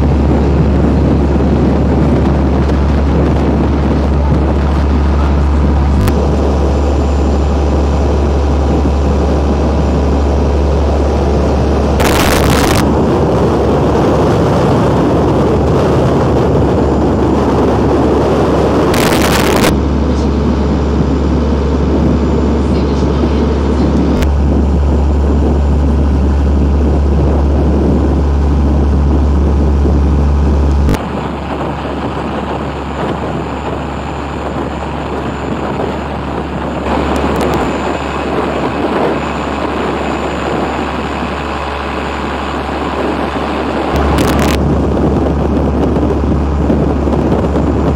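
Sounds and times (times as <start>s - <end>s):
loud burst of noise: 0.0s - 47.3s
boat engine droning: 0.0s - 47.9s
wind and water rushing: 0.0s - 47.9s.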